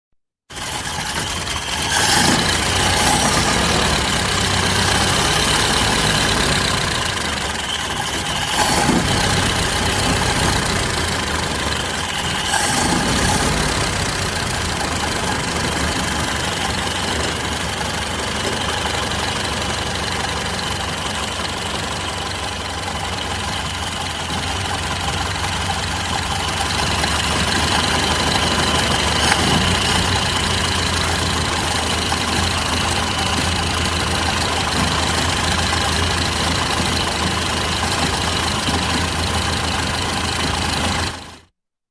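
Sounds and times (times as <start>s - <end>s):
car engine idling: 0.5s - 41.5s.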